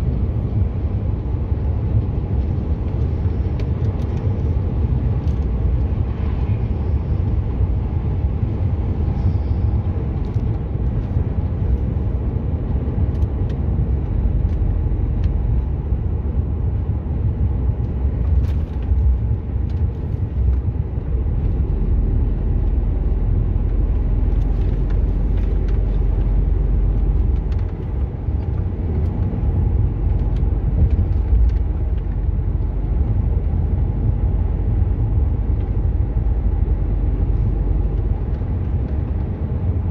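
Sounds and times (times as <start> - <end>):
lorry engine and road rumble: 0.0 - 39.9.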